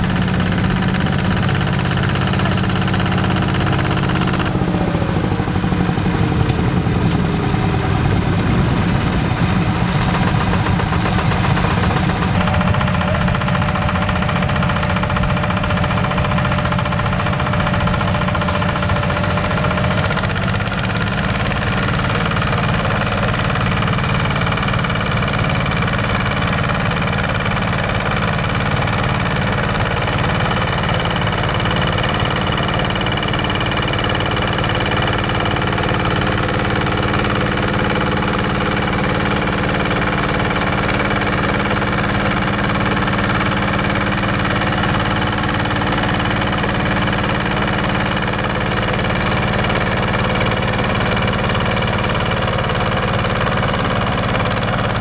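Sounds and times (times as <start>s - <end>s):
diesel engine running: 0.0s - 55.0s
tiller through dry soil: 0.0s - 55.0s.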